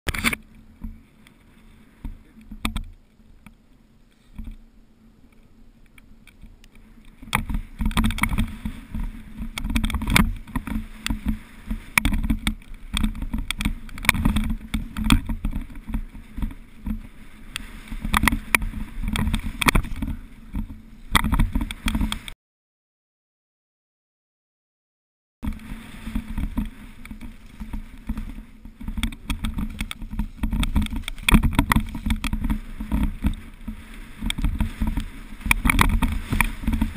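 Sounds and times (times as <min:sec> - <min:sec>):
bike knocking and rattling: 0:00.1 - 0:03.6, 0:05.3 - 0:22.4, 0:25.4 - 0:36.9
bike tyres rumbling over mud: 0:00.1 - 0:22.4, 0:25.4 - 0:36.9.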